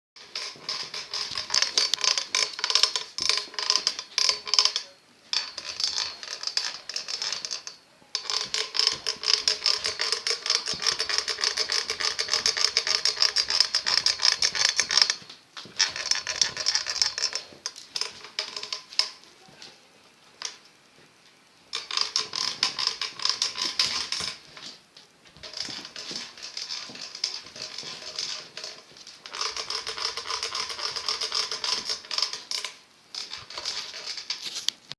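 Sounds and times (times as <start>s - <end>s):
stunt scooter squeaking and clicking: 0.2s - 19.2s, 21.8s - 24.8s, 25.4s - 34.9s.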